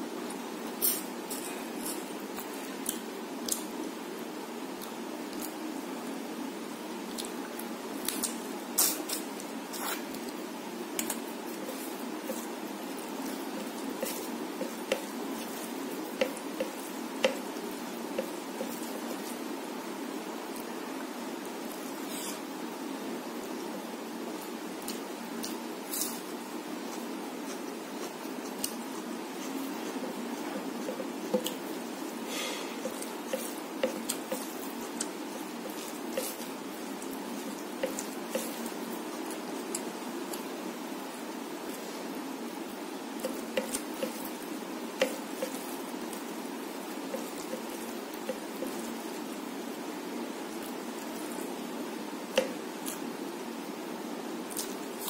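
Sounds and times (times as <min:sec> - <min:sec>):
steady background hiss: 0:00.0 - 0:55.0
steady low hum: 0:00.0 - 0:55.0.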